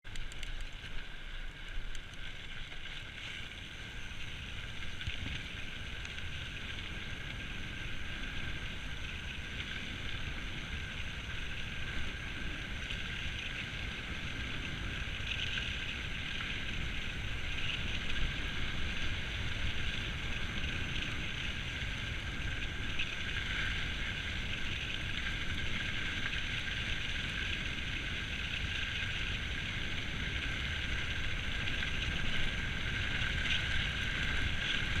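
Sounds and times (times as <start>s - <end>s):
bike tyres rumbling over ground: 0.1s - 35.0s.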